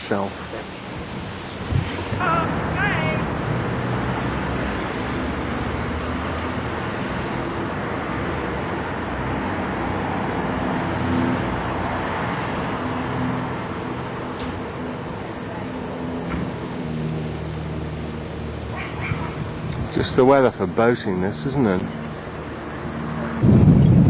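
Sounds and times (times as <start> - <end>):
car engine: 0.0 - 24.0
road noise: 0.0 - 24.0.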